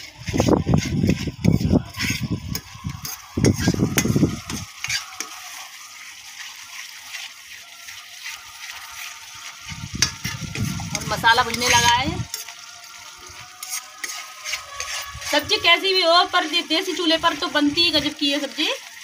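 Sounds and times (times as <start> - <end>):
ladle scraping pan: 0.0 - 18.1
paste sizzling: 0.0 - 19.0.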